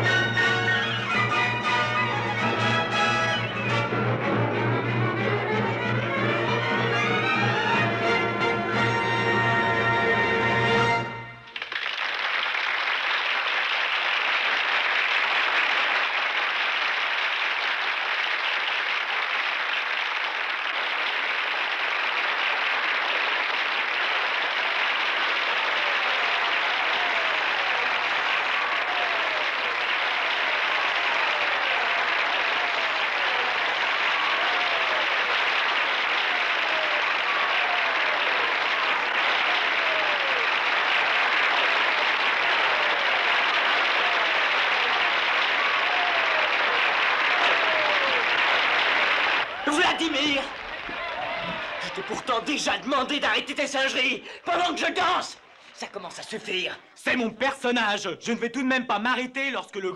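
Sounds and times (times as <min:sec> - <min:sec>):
audience applauding: 0:00.0 - 0:57.2.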